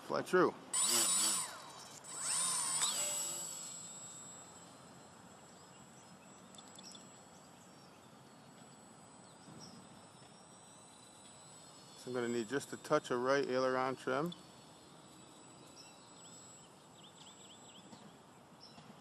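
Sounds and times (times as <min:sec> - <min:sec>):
small electric motor whining: 0:00.7 - 0:19.0.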